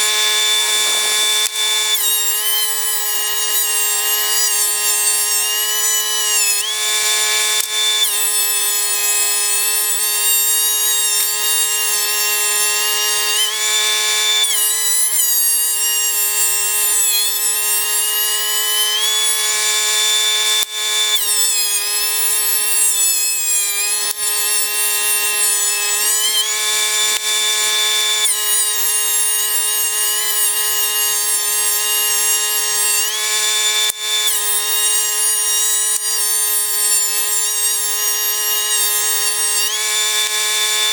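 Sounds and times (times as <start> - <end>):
thickness planer cutting boards: 0.0 - 40.9.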